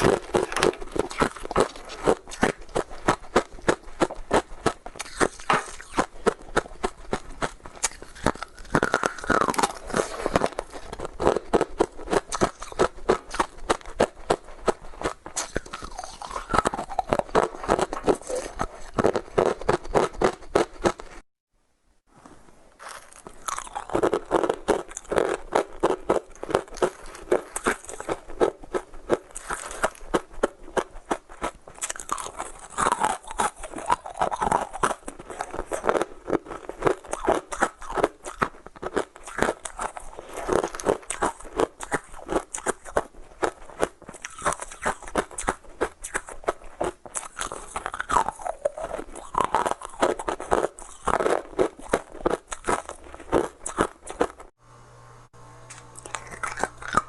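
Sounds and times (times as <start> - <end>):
ice crunching while chewed: 0.0 - 21.2, 22.8 - 54.5, 55.7 - 57.0.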